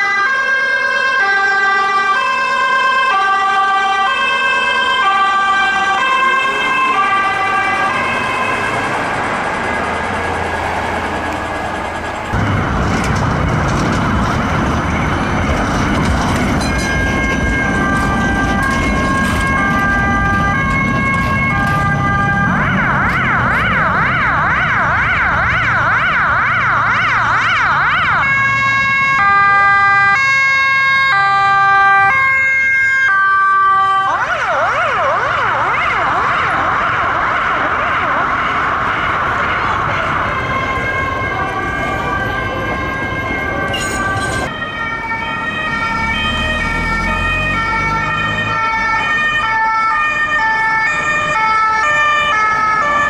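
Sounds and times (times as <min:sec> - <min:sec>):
emergency vehicle sirens: 0:00.0 - 0:53.0
road rumble: 0:00.0 - 0:53.0.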